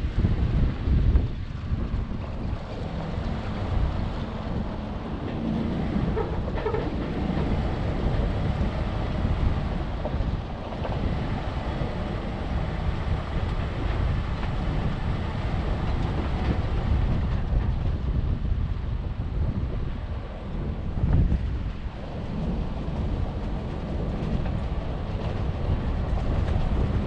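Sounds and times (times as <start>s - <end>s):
engine and tyres rumbling: 0.0s - 27.0s
wind buffeting microphone: 0.0s - 27.0s.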